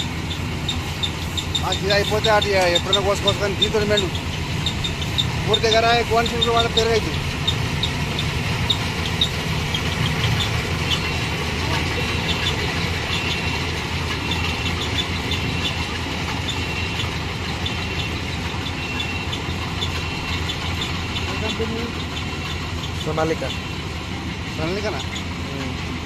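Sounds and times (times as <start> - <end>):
short high squeaks: 0.0 - 23.9
combine harvester engine running: 0.0 - 26.0.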